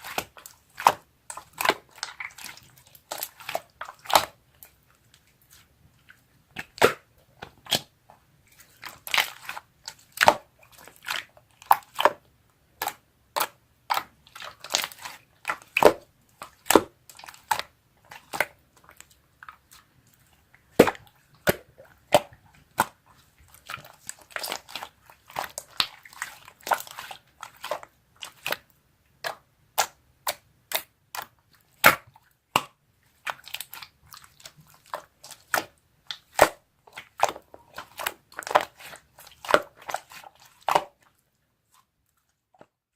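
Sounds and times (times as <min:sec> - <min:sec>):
slime squishing by hand: 0:00.0 - 0:42.9.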